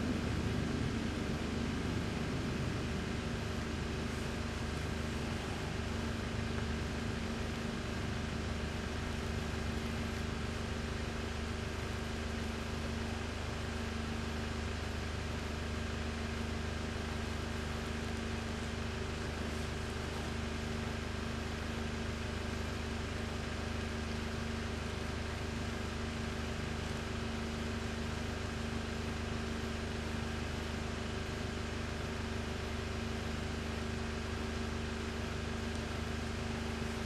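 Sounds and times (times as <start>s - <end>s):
machine hum: 0.0s - 23.8s, 24.4s - 37.0s.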